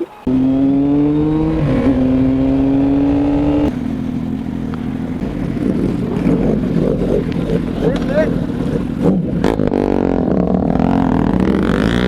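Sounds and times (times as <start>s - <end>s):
motorcycle engine accelerating: 0.2s - 12.0s.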